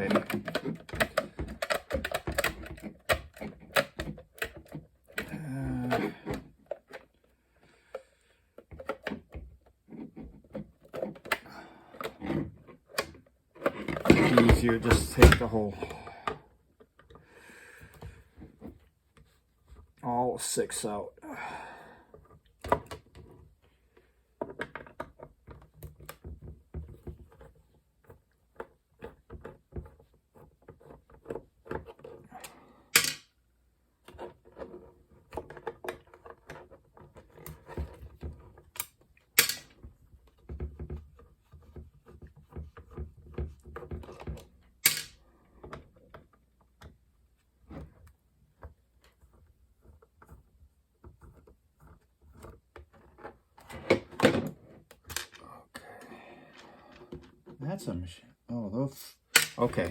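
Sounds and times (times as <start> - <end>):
clicks and scrapes of plastic casing: 0.0 - 17.2, 22.1 - 32.7, 33.9 - 55.4.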